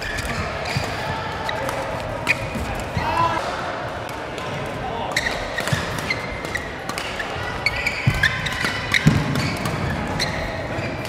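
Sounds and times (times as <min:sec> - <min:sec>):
shoes squeaking on court: 0:00.0 - 0:03.2, 0:05.0 - 0:11.0
rackets striking shuttlecock: 0:00.0 - 0:11.0.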